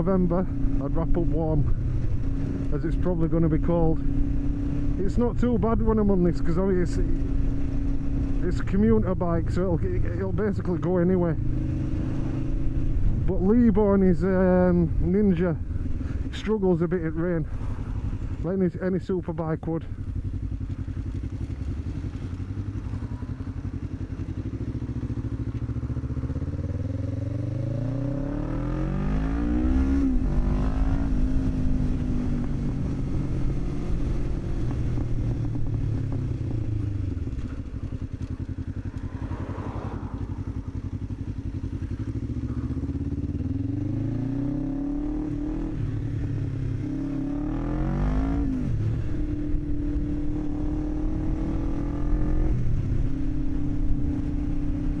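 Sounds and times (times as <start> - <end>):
motorcycle engine shifting gears: 0.0 - 16.4, 19.8 - 55.0.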